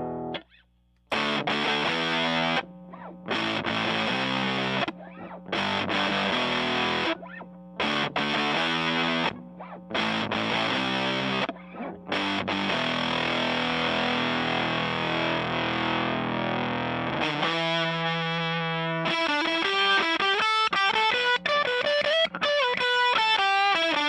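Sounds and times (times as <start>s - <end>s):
fuzz electric guitar: 0.0s - 24.0s.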